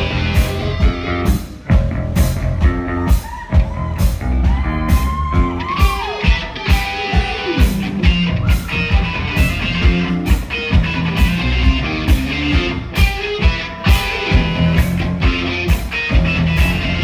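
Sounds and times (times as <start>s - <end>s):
drums keeping steady beat: 0.0s - 17.0s
electric guitar: 0.0s - 17.0s.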